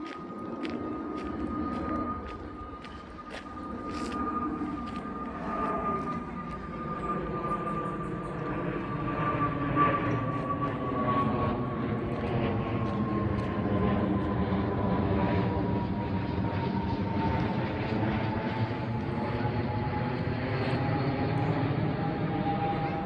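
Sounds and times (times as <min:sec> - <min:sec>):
propeller airplane flying over: 0:00.0 - 0:23.0.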